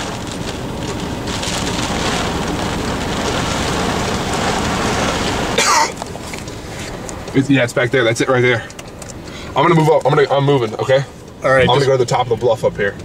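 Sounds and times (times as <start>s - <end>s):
heavy rain drumming on car roof: 0.0s - 13.0s.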